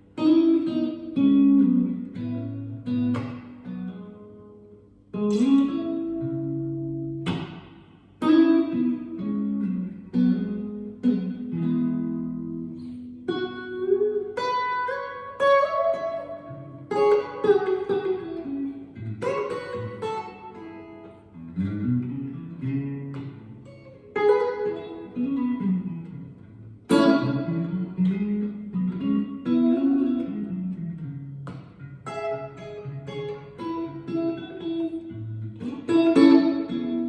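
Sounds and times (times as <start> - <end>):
clean electric guitar playing: 0.0 - 37.0.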